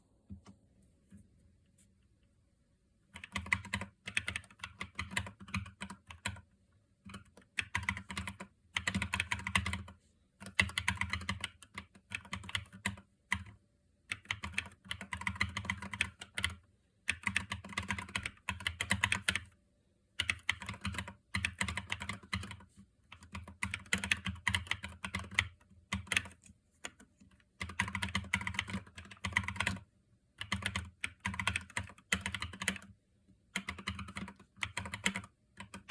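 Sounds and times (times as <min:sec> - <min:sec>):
typing on mechanical keyboard: 0:03.1 - 0:19.6, 0:20.2 - 0:35.9.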